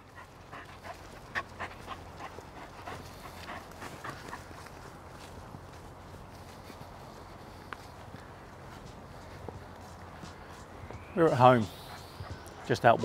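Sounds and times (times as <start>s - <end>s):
dog panting fast: 0.0s - 13.0s.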